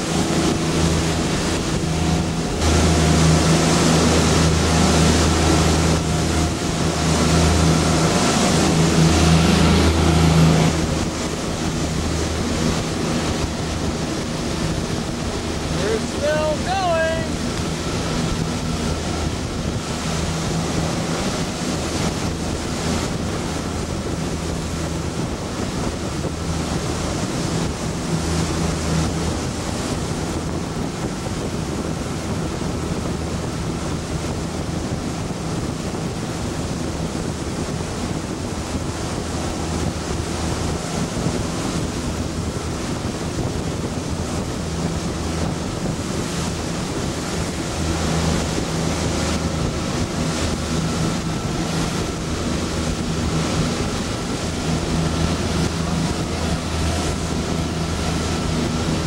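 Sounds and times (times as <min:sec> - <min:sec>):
boat engine humming: 0:00.0 - 0:59.0
water rushing along hull: 0:00.0 - 0:59.0
wind buffeting microphone: 0:00.0 - 0:59.0.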